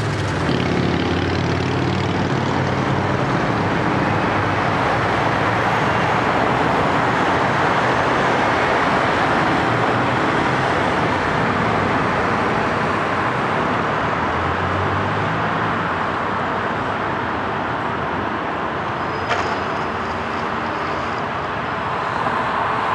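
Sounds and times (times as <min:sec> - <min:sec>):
city street traffic: 0:00.0 - 0:22.9.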